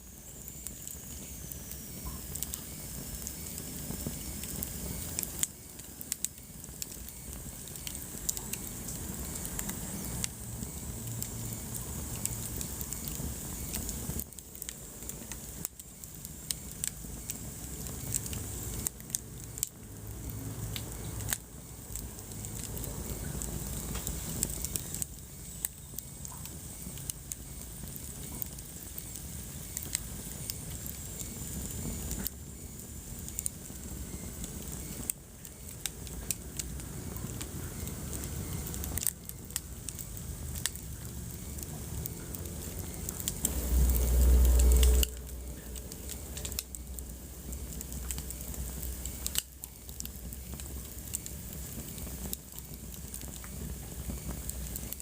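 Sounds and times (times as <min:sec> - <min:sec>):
wood fire crackling: 0:00.0 - 0:55.0
sharp pops of fire: 0:00.1 - 0:55.0.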